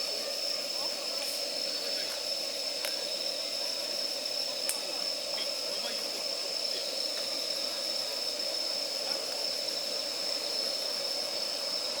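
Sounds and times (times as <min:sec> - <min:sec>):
campfire hissing: 0:00.0 - 0:12.0.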